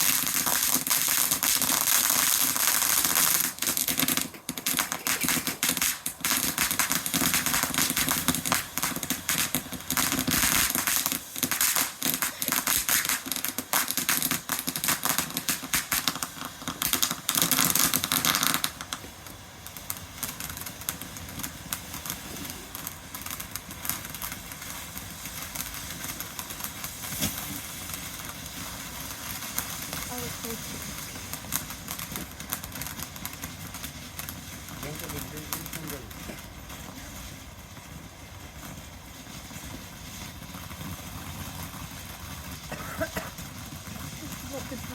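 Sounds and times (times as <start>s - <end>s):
fireworks crackling: 0.0s - 44.9s.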